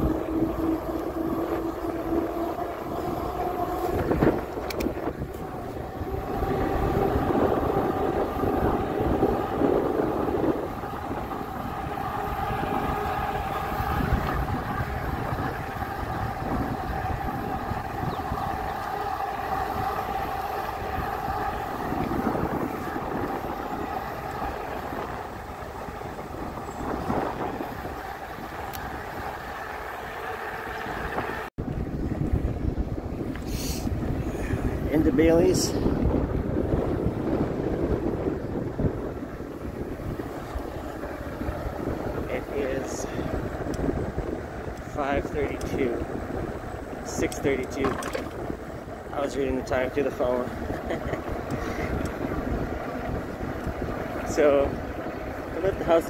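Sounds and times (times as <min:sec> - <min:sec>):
electric bike motor whine: 0:00.0 - 0:56.0
wind rumble on microphone: 0:00.0 - 0:56.0.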